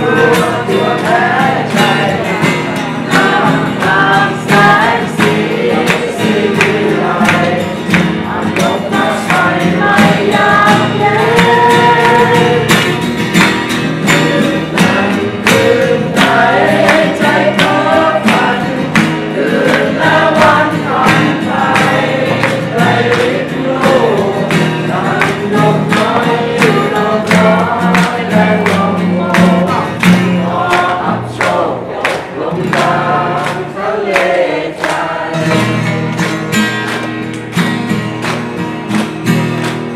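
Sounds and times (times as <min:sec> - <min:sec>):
song with group singing: 0:00.0 - 0:37.6.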